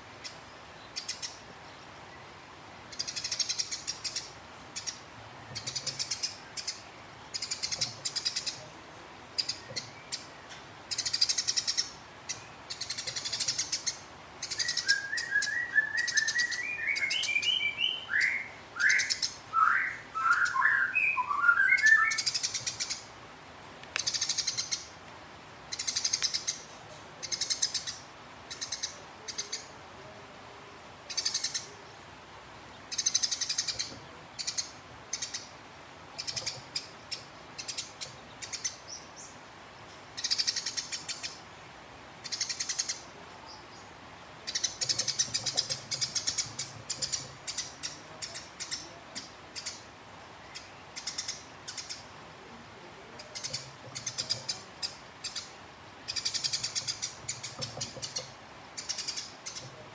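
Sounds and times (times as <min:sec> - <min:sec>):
sparrow chattering: 0:00.2 - 0:01.4, 0:02.9 - 0:08.6, 0:09.4 - 0:10.3, 0:10.9 - 0:23.1, 0:24.0 - 0:25.0, 0:25.7 - 0:29.7, 0:31.1 - 0:31.8, 0:32.8 - 0:39.3, 0:40.2 - 0:41.4, 0:42.2 - 0:49.9, 0:50.5 - 0:52.1, 0:53.2 - 0:59.8.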